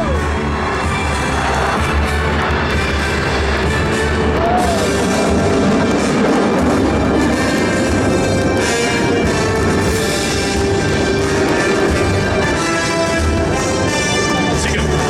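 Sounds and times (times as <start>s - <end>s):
loud music: 0.0s - 15.0s.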